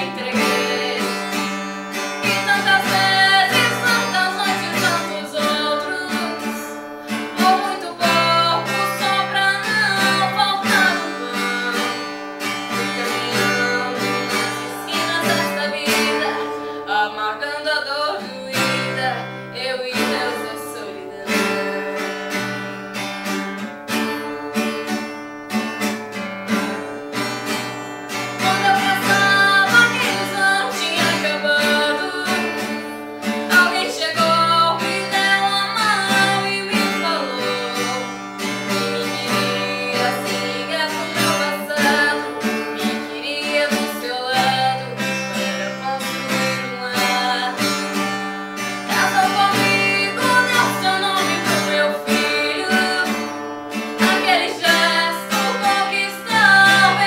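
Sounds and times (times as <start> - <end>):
woman singing: 0.0 - 25.2, 26.1 - 57.0
acoustic guitar strumming: 0.0 - 57.0.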